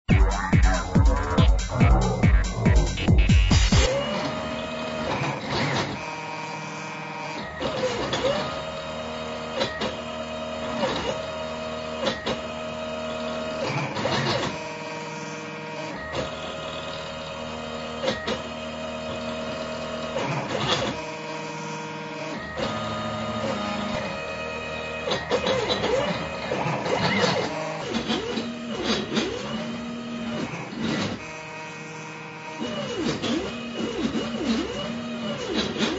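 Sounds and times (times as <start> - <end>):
stepper motors whining: 0.1 - 35.9.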